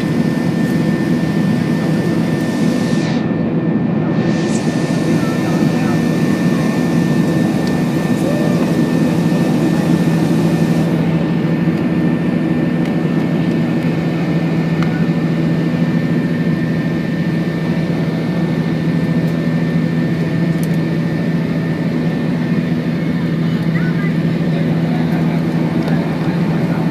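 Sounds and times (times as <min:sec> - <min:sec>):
jet engine cabin drone: 0:00.0 - 0:26.9.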